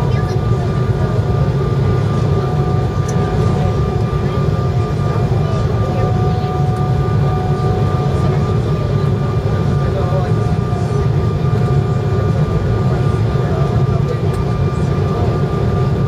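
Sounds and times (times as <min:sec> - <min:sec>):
jet engine and airflow rumble: 0:00.0 - 0:16.0.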